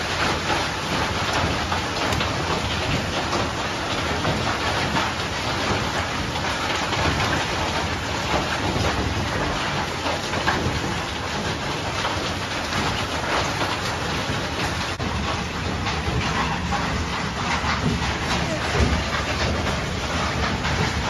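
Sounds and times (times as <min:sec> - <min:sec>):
heavy rain and hail: 0:00.0 - 0:21.0.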